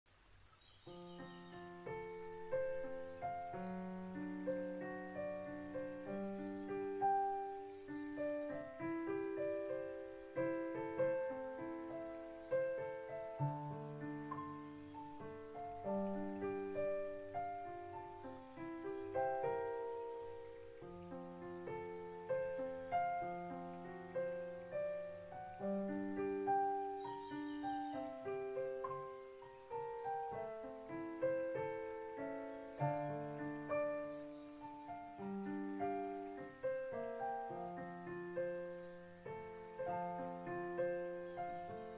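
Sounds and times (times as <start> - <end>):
slow gentle solo piano: 0.1 - 41.9.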